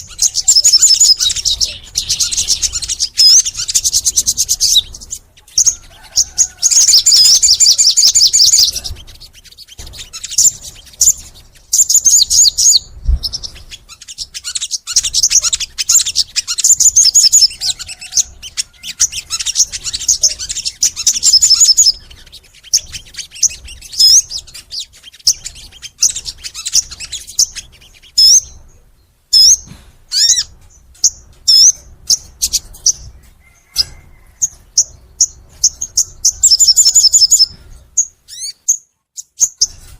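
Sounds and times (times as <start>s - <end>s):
bird chirping twitters: 0.0s - 39.9s.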